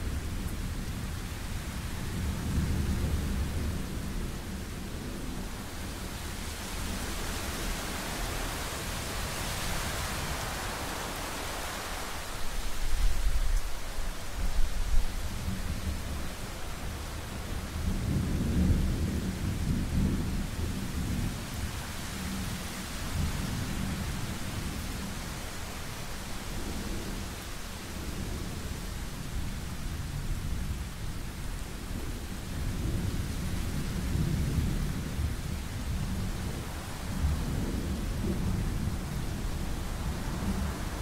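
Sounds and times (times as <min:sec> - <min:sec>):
steady rain hiss: 0:00.0 - 0:41.0.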